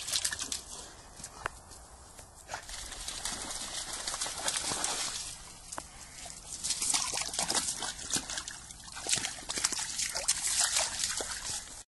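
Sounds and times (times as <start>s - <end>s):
dog splashing through water: 0.0s - 0.7s, 2.5s - 11.8s.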